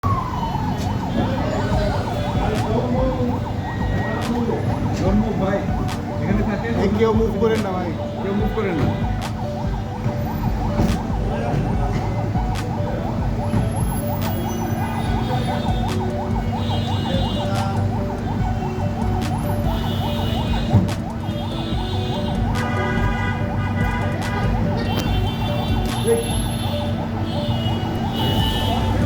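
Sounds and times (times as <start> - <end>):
siren yelping: 0.0 - 29.0.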